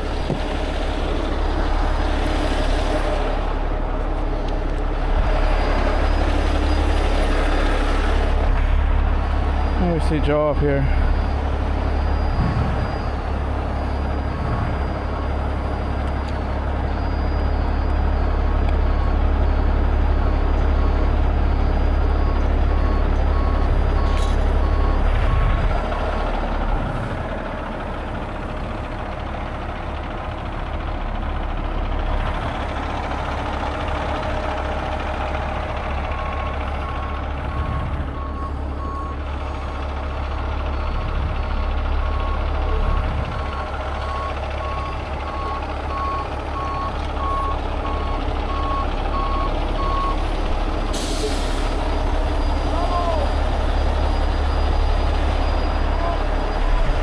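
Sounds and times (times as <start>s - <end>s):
reversing alarm beeping: 0.0s - 31.4s, 32.1s - 57.0s
diesel engine running: 0.0s - 57.0s.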